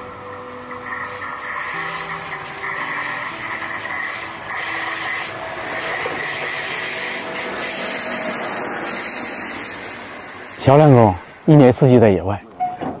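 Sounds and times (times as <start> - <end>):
train rattling on rails: 0.0 - 13.0.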